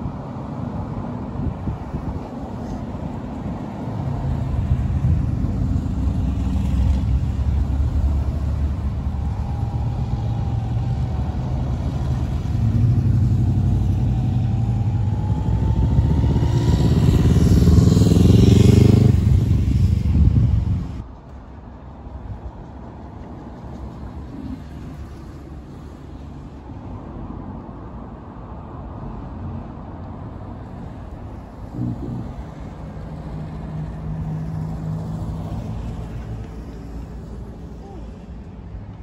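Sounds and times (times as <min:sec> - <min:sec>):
cars driving past: 0:00.0 - 0:39.0.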